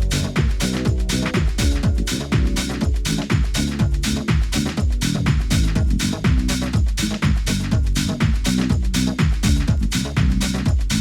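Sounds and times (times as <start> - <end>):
loud disco music: 0.0 - 11.0.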